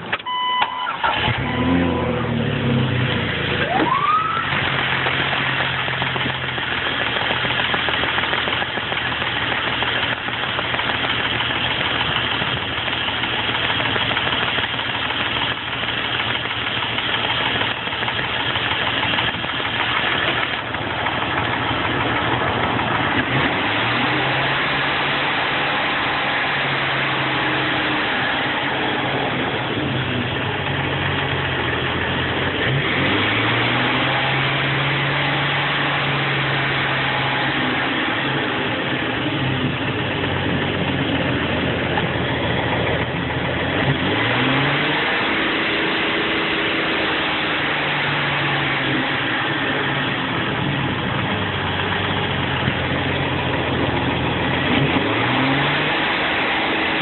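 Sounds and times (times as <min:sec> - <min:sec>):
engine idling and revving: 0:00.0 - 0:57.0.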